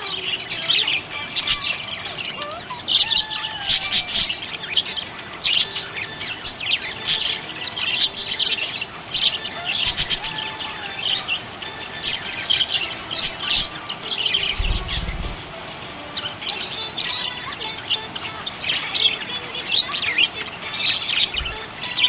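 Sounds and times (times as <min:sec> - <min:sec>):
parrots chirping and chattering: 0:00.0 - 0:22.0.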